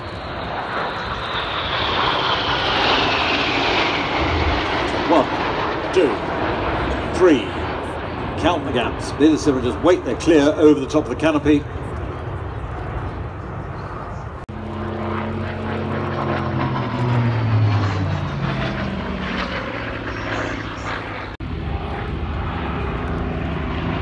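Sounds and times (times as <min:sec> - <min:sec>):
propeller aircraft engine drone: 0:00.0 - 0:24.0.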